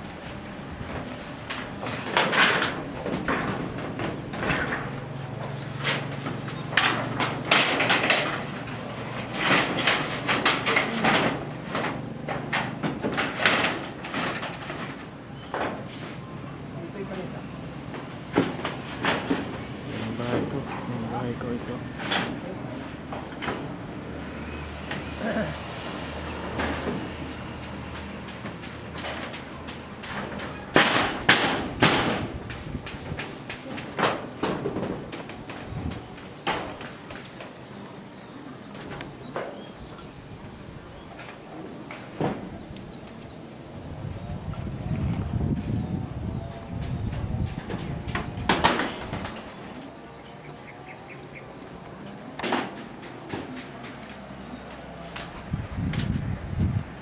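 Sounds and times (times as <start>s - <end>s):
knocks scrapes and clattering: 0.0s - 57.0s.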